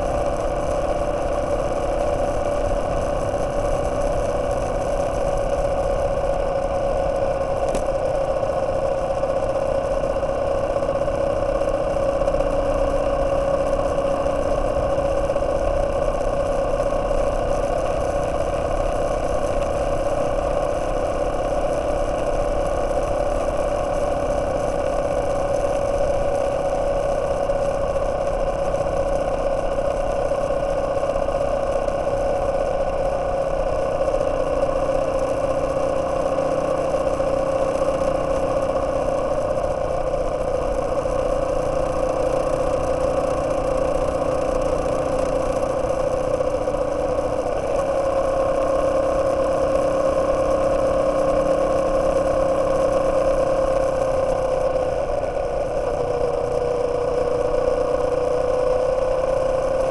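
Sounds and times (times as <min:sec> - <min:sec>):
motorcycle engine running steadily: 0:00.0 - 0:59.9.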